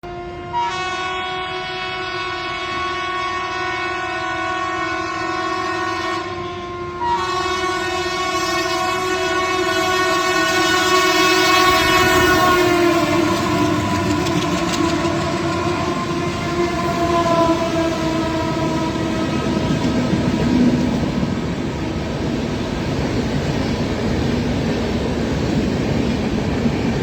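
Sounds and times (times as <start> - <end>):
locomotive horn blast: 0.0 - 22.2.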